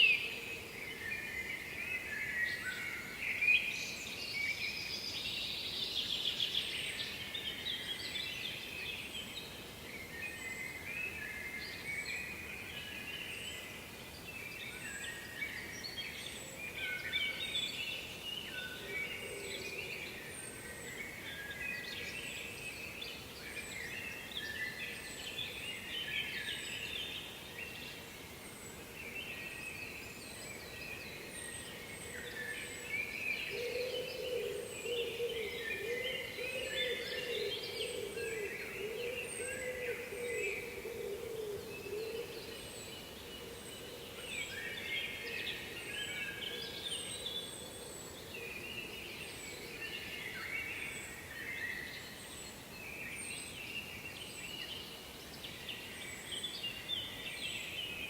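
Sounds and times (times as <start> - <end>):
background hiss: 0.0 - 58.0
songbirds singing: 0.0 - 58.0.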